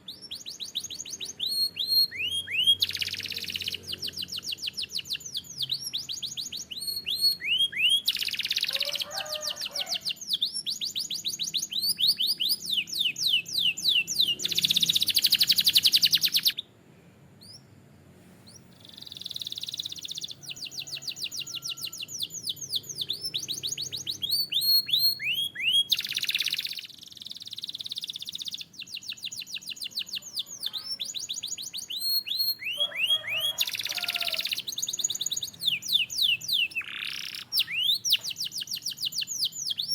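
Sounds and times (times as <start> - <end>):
canary singing trills: 0.0 - 16.8, 18.4 - 39.9.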